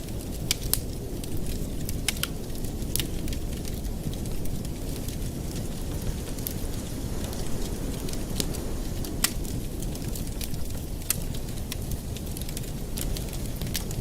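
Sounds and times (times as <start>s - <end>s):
fire crackles and pops: 0.0s - 14.0s
wood fire burning: 0.0s - 14.0s.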